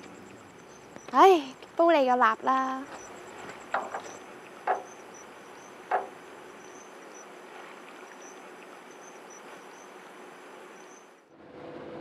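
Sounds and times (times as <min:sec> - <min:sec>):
crickets chirping: 0:00.0 - 0:11.3.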